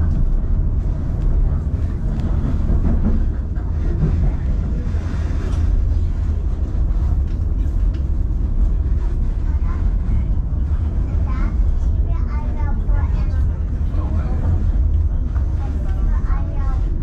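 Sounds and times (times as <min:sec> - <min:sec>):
train car rumbling on track: 0:00.0 - 0:17.0.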